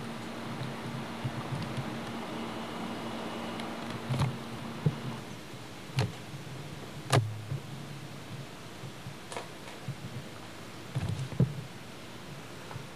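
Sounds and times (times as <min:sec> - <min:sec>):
faint low hum: 0:00.0 - 0:12.9.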